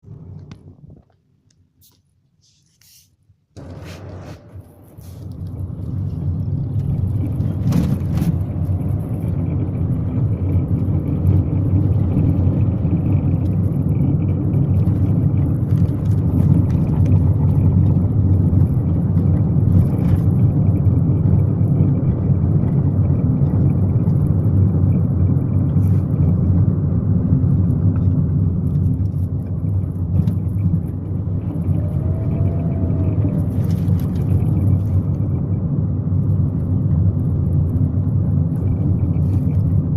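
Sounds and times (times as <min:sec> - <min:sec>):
car road and running rumble: 0:00.0 - 0:02.2, 0:03.5 - 0:39.9.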